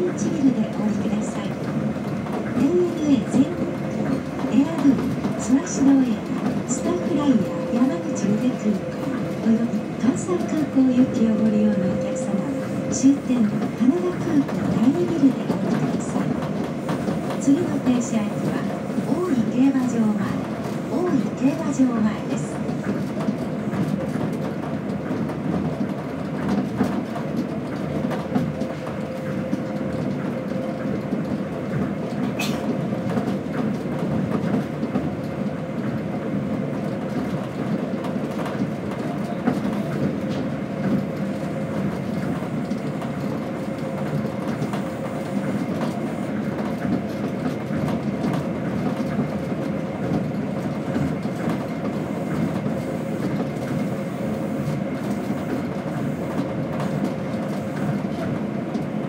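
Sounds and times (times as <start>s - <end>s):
train rumble on guideway: 0.0s - 59.0s.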